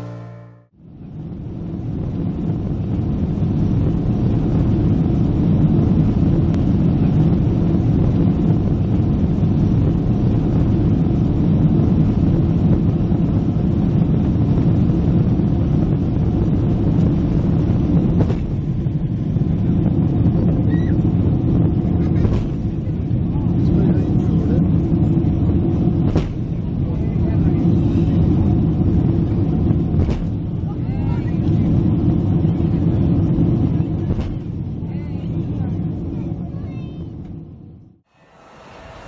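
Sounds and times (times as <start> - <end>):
jet engines rumbling: 0.0 - 39.0.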